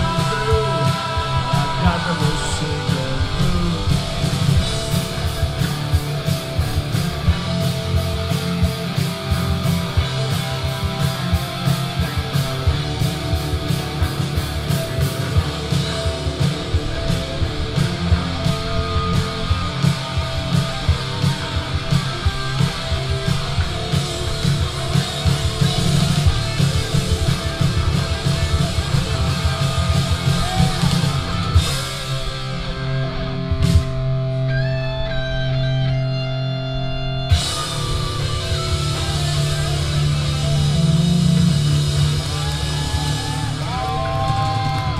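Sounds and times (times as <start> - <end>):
driving drum kit: 0.0 - 36.2, 37.3 - 44.9
bass guitar: 0.0 - 44.9
electric guitars: 0.0 - 44.9.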